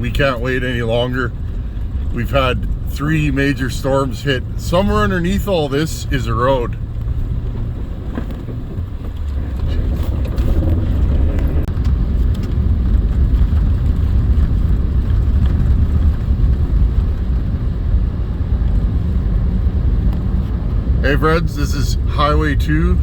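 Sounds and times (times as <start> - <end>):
pickup truck driving on snow: 0.0 - 23.0.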